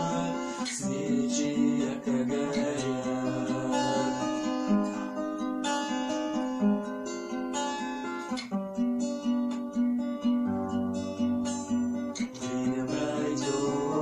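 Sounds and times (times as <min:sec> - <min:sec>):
acoustic guitar picking and strumming: 0:00.0 - 0:14.0.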